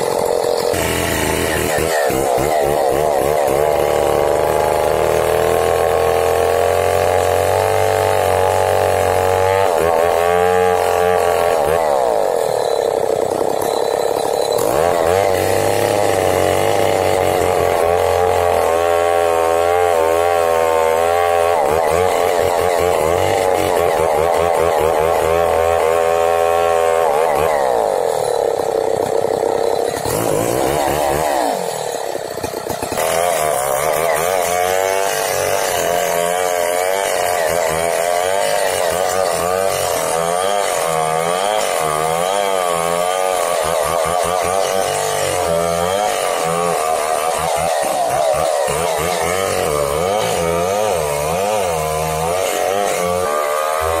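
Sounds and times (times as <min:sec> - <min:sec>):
chainsaw cutting tree: 0:00.0 - 0:54.0.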